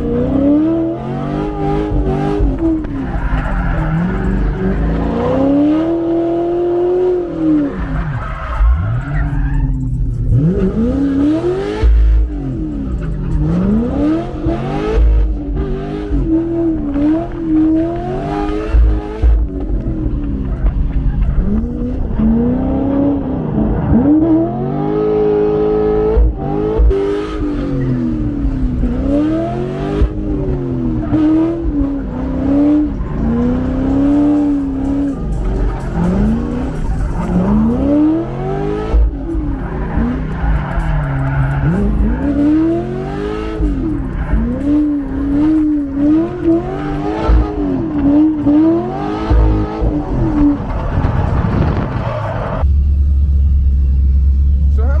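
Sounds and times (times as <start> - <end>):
car engine revving hard: 0.0 - 52.6
tires squealing: 0.0 - 52.7.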